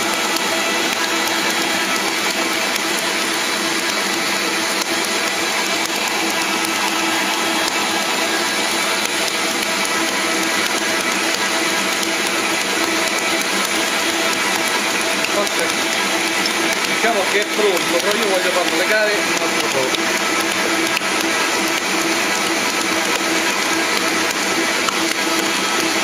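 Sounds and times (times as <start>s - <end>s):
stand mixer whirring: 0.0s - 26.0s.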